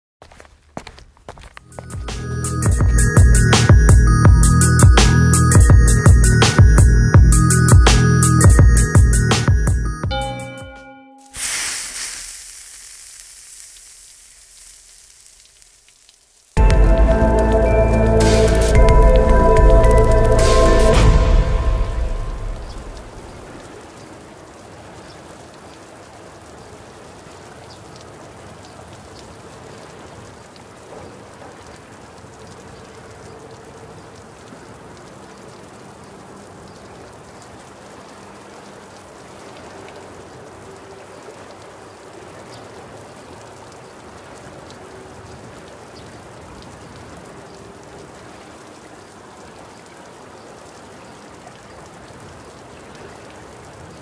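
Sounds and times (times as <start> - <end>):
rain-like hiss: 0.3 - 9.9, 11.2 - 54.0.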